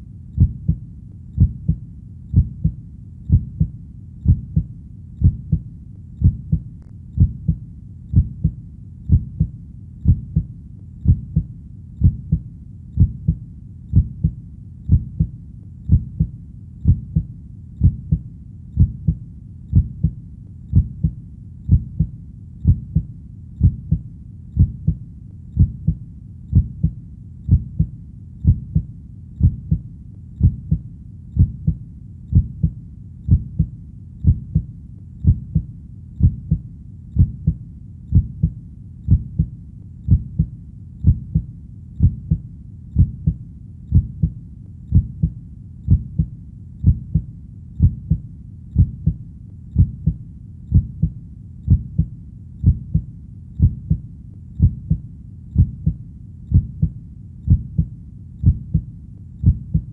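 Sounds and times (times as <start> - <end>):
heartbeat thumping: 0.4 - 0.8, 1.4 - 12.4, 13.0 - 54.0, 54.6 - 59.9.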